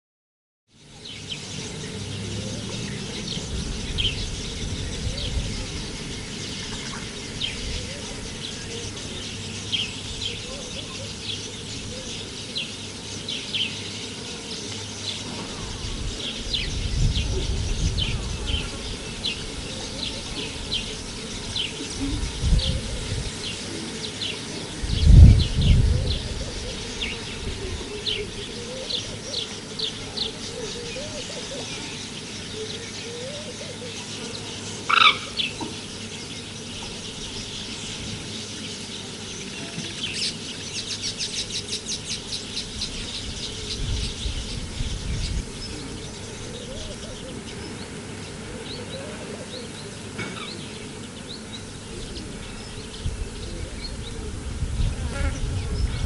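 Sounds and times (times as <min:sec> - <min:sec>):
small birds chirping: 0:00.7 - 0:56.0.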